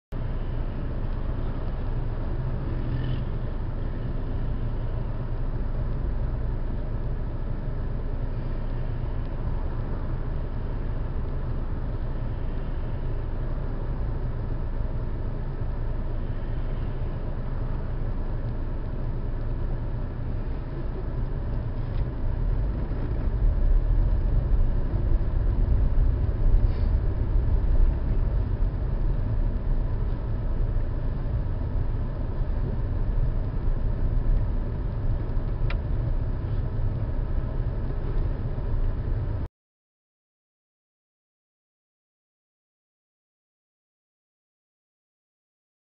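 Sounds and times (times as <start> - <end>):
car engine and road noise: 0.1 - 39.5.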